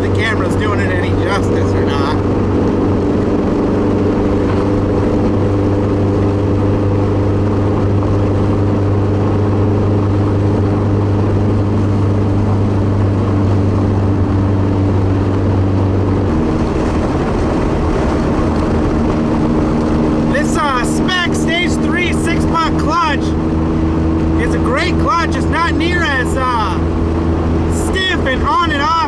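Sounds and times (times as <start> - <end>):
car engine droning in cabin: 0.0 - 29.0.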